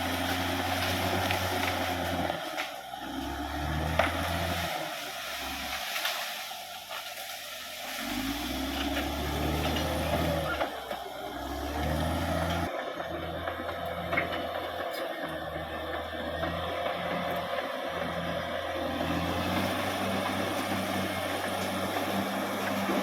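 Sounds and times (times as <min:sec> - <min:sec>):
bulldozer diesel engine working: 0:00.0 - 0:23.0.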